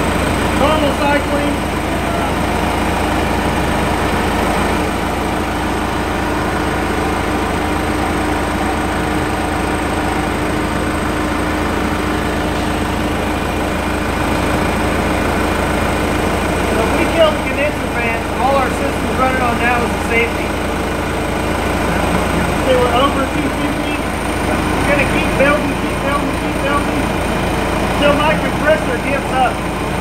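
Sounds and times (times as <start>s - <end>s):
cab air conditioning: 0.0s - 30.0s
mining rig engine idling: 0.0s - 30.0s.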